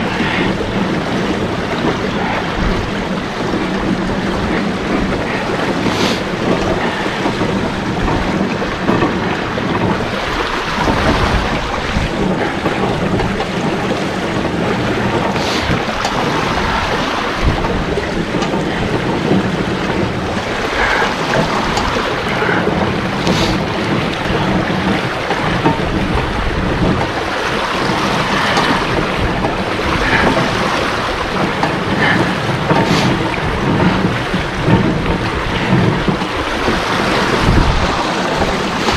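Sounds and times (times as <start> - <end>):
water rushing and splashing: 0.0 - 38.9.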